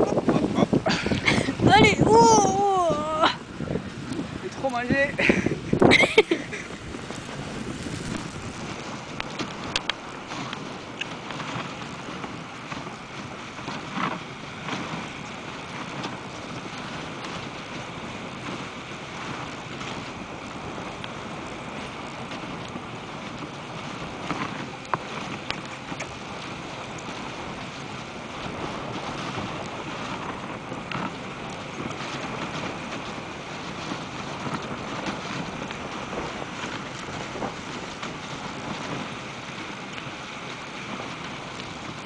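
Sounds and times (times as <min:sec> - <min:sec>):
sled gliding over snow: 0:00.0 - 0:42.0.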